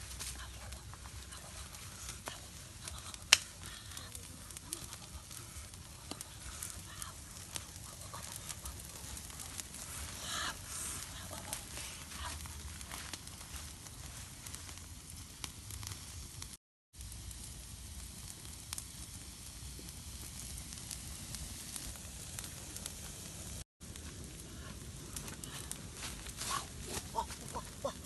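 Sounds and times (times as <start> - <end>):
meat sizzling on a grill: 0.0 - 26.6
wood fire crackling: 0.0 - 28.0.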